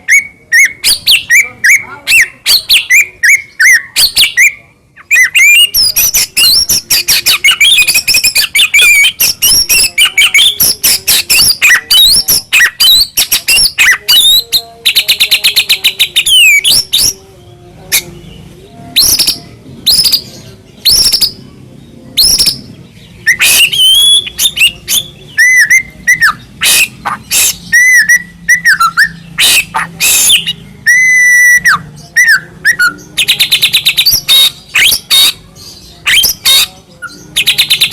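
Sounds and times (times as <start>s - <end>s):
songbird singing whistles and trills: 0.0s - 17.2s, 17.9s - 21.5s, 22.1s - 37.9s.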